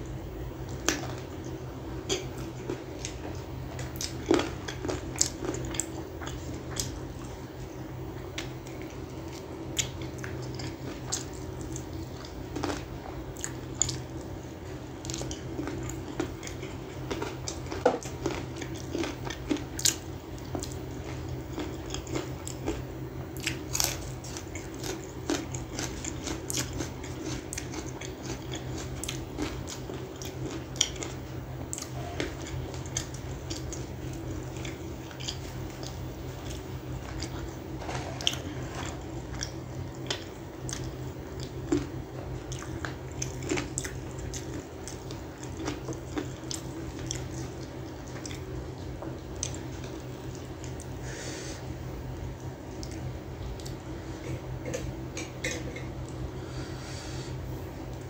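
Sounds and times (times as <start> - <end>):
chewing and biting food: 0.6 - 51.0, 52.0 - 56.3.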